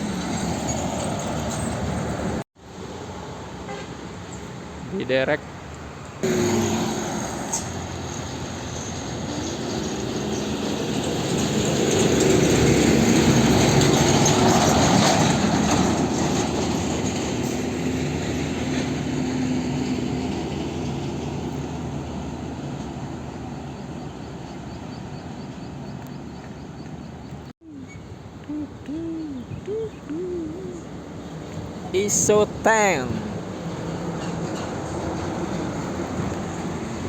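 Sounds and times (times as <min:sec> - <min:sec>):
diesel truck driving past: 0:06.2 - 0:37.0.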